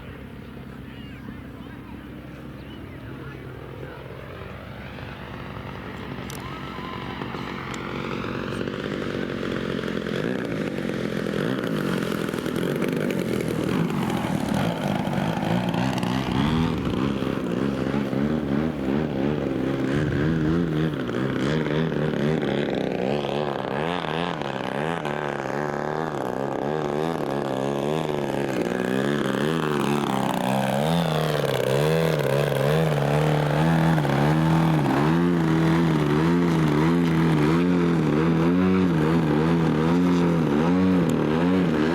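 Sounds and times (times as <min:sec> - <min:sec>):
model airplane engine buzzing: 0:00.0 - 0:41.9.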